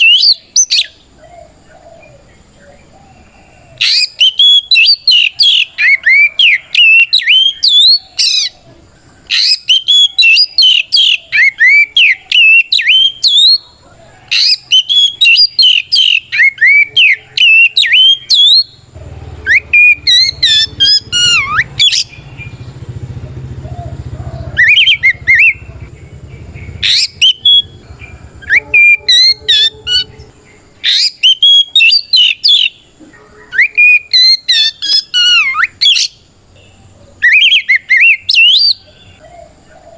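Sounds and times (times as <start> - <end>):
bird singing whistled notes: 0.0 - 36.2, 37.2 - 39.4.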